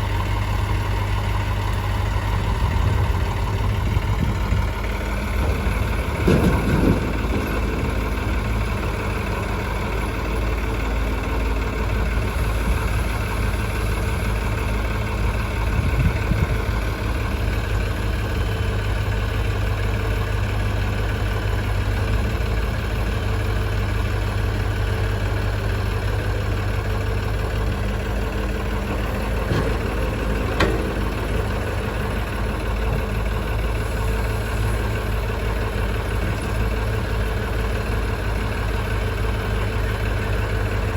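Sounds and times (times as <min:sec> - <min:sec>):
heavy diesel engine idling: 0:00.0 - 0:40.9.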